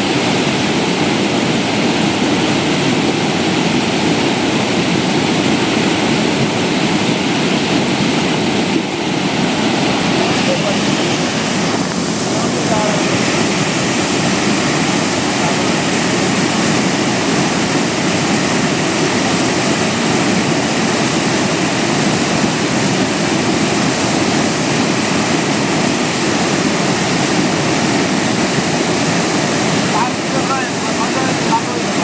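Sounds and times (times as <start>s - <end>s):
rushing floodwater roar: 0.0s - 32.0s.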